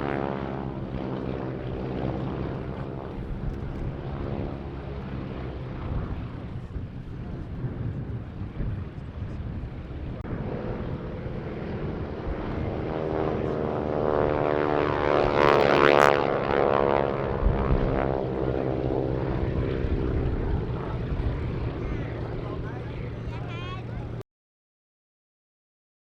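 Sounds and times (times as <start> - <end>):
biplane engine flypast: 0.0 - 24.2.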